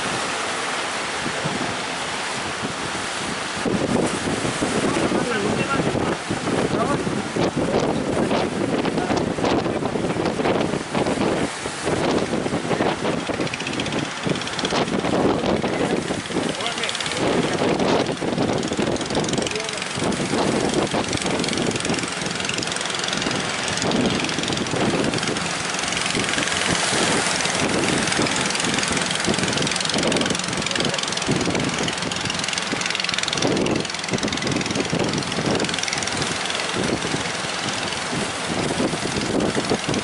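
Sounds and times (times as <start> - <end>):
boat engine running: 0.0 - 40.0
wind buffeting microphone: 0.0 - 40.0.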